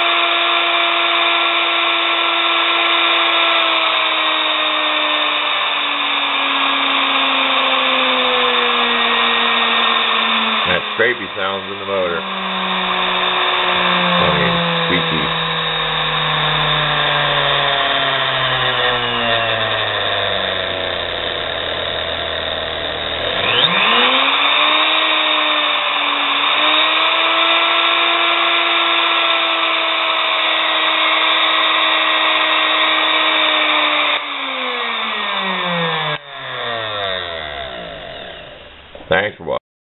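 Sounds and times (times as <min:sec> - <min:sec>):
rough scraping in motor: 0:00.0 - 0:39.0
small electric motor whining: 0:00.0 - 0:39.0.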